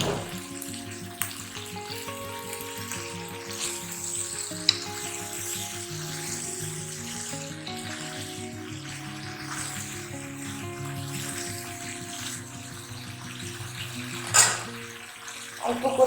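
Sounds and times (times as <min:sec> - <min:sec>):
background music: 0:00.0 - 0:16.0
vegetables sizzling in hot oil: 0:00.0 - 0:16.0.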